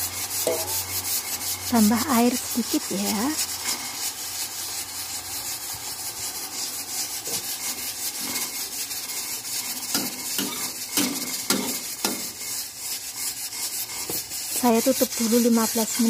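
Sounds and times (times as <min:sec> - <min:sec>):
metal spatula scraping wok: 0:00.0 - 0:16.0
steady hiss: 0:00.0 - 0:16.0.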